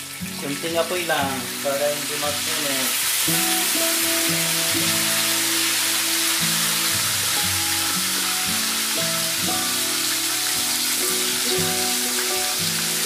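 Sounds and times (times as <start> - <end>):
background music: 0.0 - 13.0
oil sizzling in a wok: 0.0 - 13.0.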